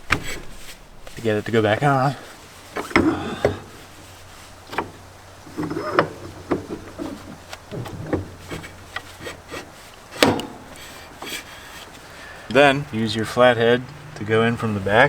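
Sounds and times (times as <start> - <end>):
light metal knocks and clunks: 0.0 - 15.0
metal scraping: 0.0 - 15.0.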